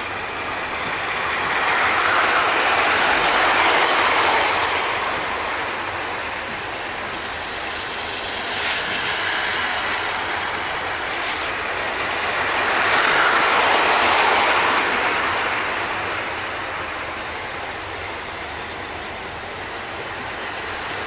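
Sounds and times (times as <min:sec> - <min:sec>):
model train motors whirring: 0:00.0 - 0:21.0
wheels rolling on rails: 0:00.0 - 0:21.0.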